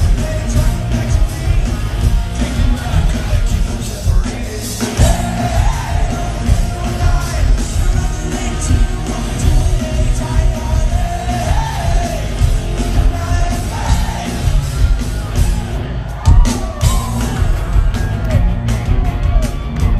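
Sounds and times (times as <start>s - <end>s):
bass: 0.0s - 19.9s
distorted electric guitars: 0.0s - 19.9s
drums: 0.0s - 19.9s.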